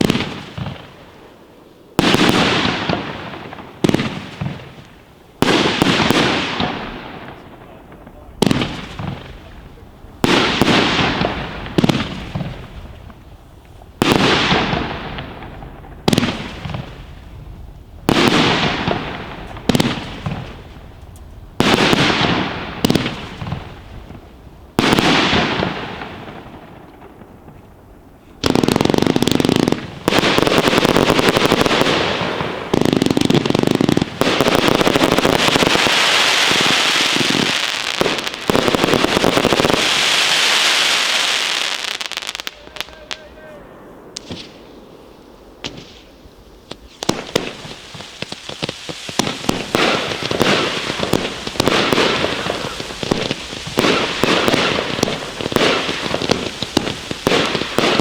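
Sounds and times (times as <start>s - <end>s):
firework bangs with crackling hiss: 0.0s - 58.0s
firework barrage: 0.0s - 58.0s.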